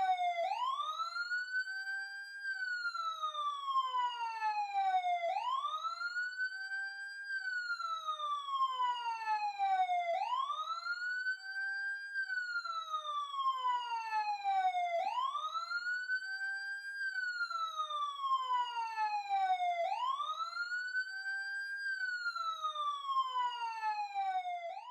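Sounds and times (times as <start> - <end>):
ambulance siren wailing: 0.0 - 24.9.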